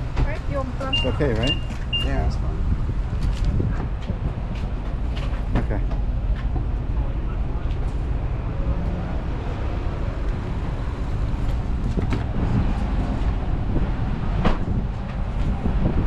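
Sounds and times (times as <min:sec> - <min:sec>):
road rumble inside car: 0:00.0 - 0:16.0.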